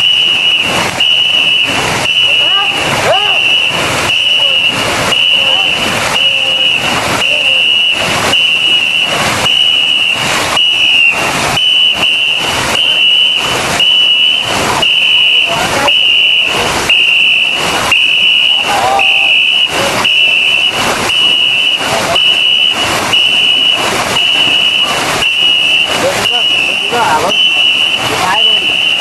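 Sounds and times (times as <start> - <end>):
paddles splashing in water: 0.0 - 29.0
shrill whistle blasts: 0.0 - 29.0.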